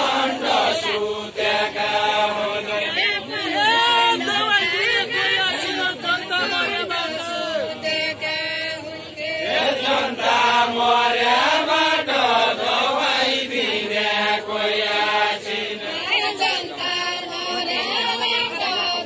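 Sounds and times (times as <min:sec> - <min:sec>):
men singing folk song together: 0:00.0 - 0:19.0.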